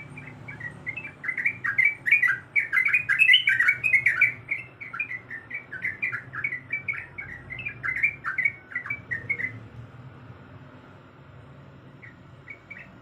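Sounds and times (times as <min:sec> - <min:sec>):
bird singing whistled notes: 0:00.0 - 0:09.7, 0:12.0 - 0:13.0.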